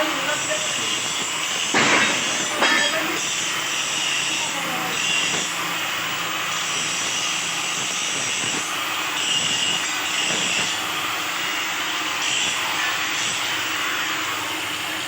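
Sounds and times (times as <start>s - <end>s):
arc welding crackling hiss: 0.0s - 15.0s.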